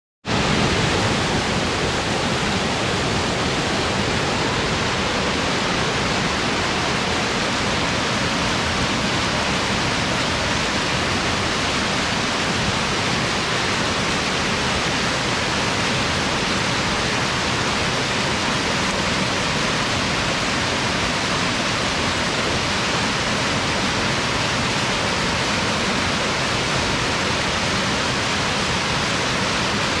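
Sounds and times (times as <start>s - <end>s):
small waterfall over rocks: 0.3s - 30.0s.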